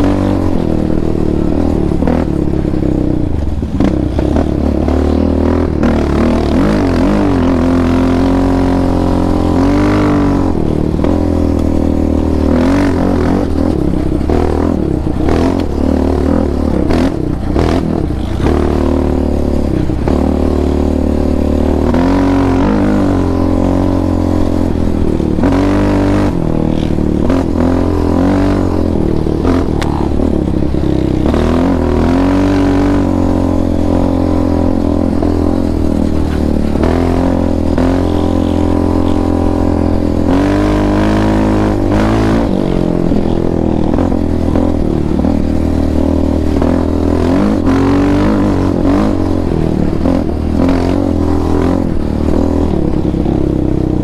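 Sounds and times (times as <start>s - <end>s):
quad bike engine revving: 0.0s - 54.0s.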